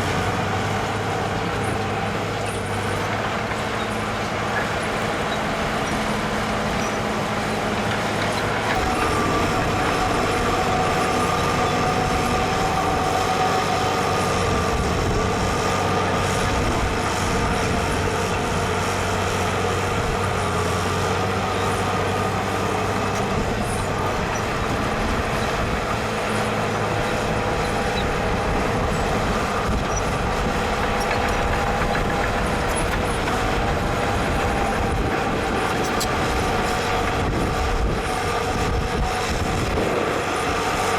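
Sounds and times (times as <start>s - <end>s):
diesel machinery engine drone: 0.0s - 40.9s.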